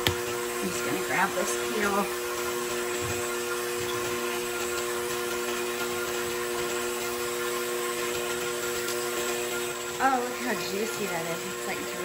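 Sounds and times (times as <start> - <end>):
stand mixer motor humming: 0.0 - 12.0.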